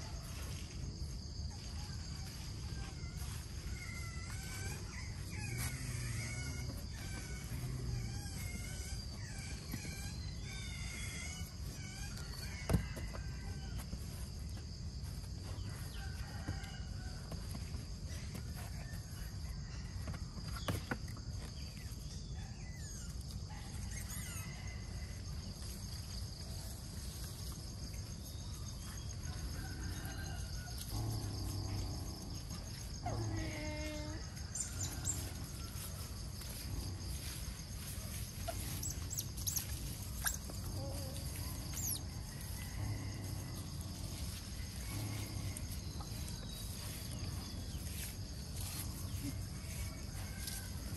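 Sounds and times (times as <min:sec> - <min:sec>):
high-pitched insect chorus: 0:00.0 - 0:50.9.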